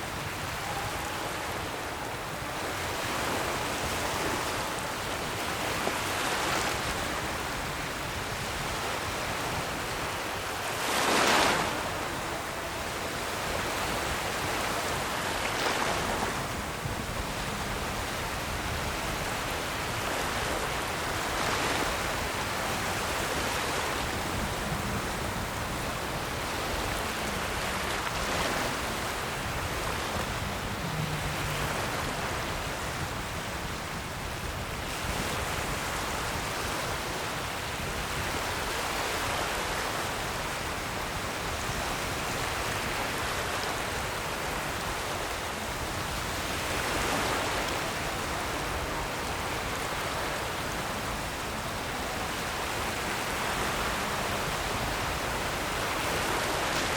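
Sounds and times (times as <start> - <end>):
ocean waves washing on shore: 0.0 - 56.9.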